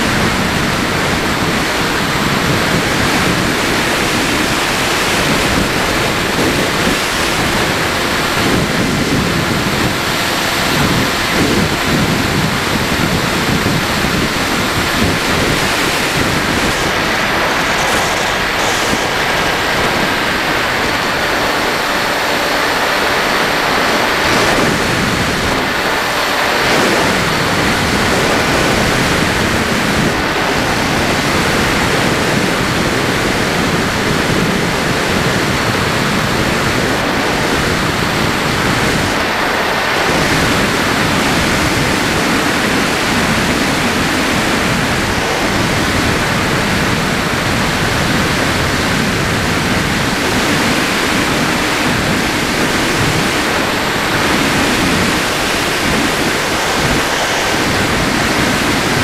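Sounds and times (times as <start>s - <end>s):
airflow rushing over microphone: 0.0s - 59.0s
electric motor and propeller whine: 0.0s - 59.0s.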